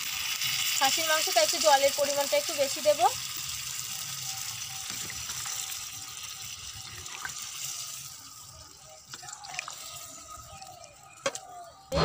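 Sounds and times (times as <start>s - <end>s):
curry hissing and bubbling: 0.0s - 11.1s.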